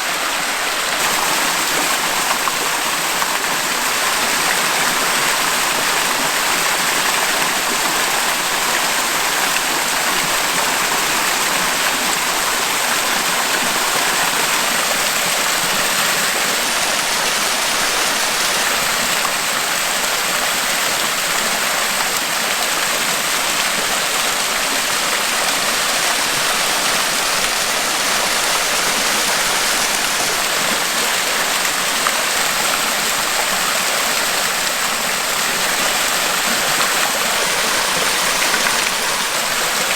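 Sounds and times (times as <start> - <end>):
waterfall and brook rushing: 0.0 - 39.9.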